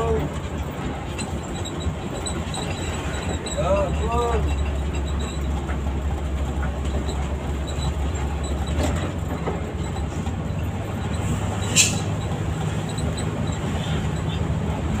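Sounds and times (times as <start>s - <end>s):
coach engine and road noise: 0.0s - 15.0s.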